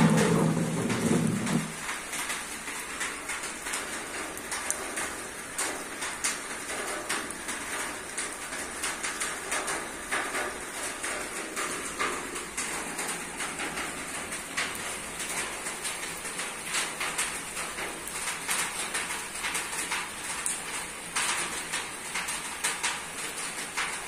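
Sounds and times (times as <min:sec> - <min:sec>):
rain on a roof: 0:00.0 - 0:24.0.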